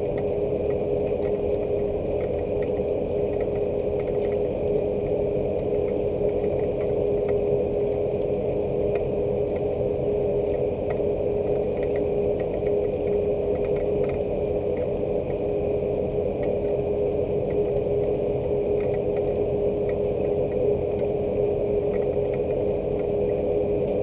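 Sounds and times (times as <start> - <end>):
rain drops ticking: 0.0 - 24.0
steady hum: 0.0 - 24.0.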